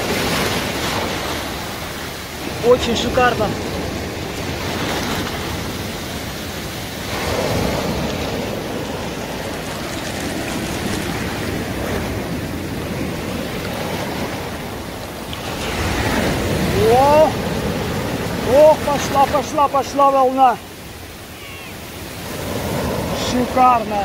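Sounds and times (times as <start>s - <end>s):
sea surf breaking: 0.0s - 24.0s.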